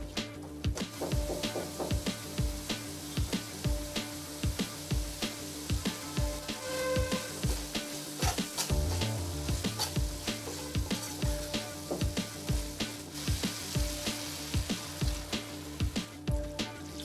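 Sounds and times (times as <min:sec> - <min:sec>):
background music with steady beat: 0:00.0 - 0:17.0
food sizzling in a pan: 0:00.8 - 0:17.0.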